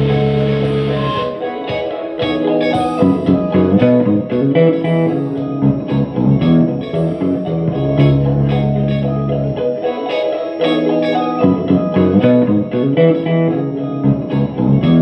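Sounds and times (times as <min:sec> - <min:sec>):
low bass notes: 0:00.0 - 0:01.5, 0:02.2 - 0:09.8, 0:11.4 - 0:15.0
electric guitar playing: 0:00.0 - 0:15.0.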